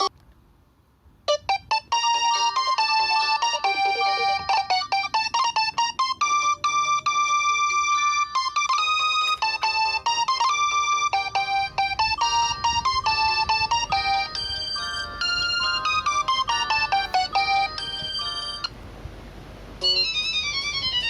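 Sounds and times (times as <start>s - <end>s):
phone ringtone synthesized melody: 1.3s - 18.7s, 19.8s - 21.0s.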